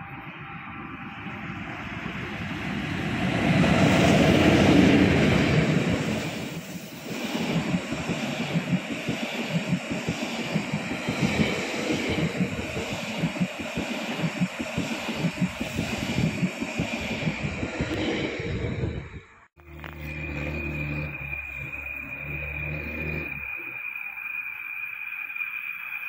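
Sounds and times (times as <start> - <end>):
electric locomotive passing: 0.0 - 26.0.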